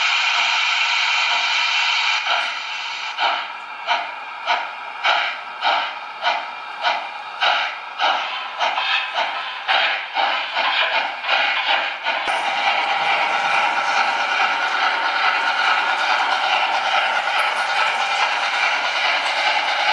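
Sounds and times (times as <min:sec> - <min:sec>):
steam hiss: 0:00.0 - 0:19.9
steam locomotive exhaust chuffs: 0:00.0 - 0:19.9.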